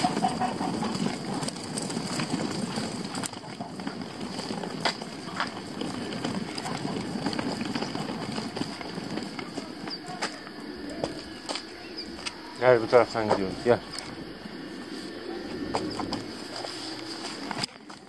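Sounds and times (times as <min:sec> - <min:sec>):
footsteps on paving stones: 0:00.0 - 0:18.0
scuffing rustle: 0:02.6 - 0:18.0.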